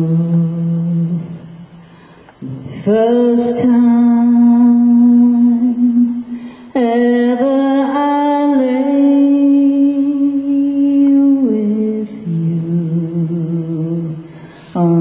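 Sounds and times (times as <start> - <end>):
woman singing unaccompanied: 0.0 - 1.5, 2.6 - 15.0.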